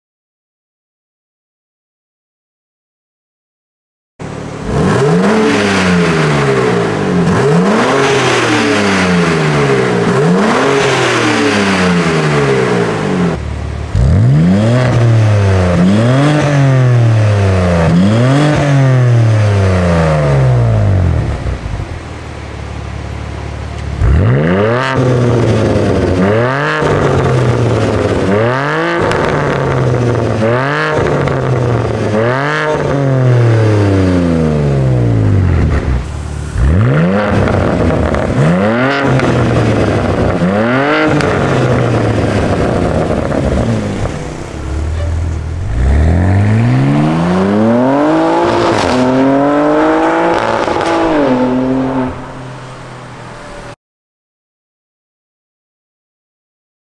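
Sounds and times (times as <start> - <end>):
car engine revving hard: 4.3 - 21.9, 23.9 - 53.8.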